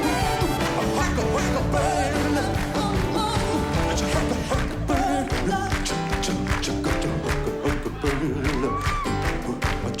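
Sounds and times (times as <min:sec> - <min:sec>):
live rock and roll band: 0:00.0 - 0:10.0
person singing: 0:00.0 - 0:10.0.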